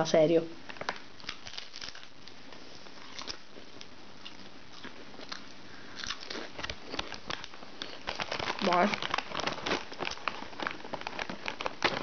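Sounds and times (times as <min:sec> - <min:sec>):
person crunching potato chips: 0:01.1 - 0:12.0.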